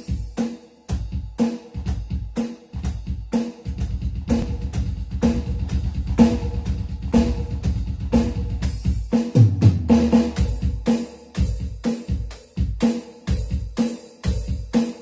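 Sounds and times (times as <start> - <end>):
electronic drum kit beat: 0.0 - 15.0.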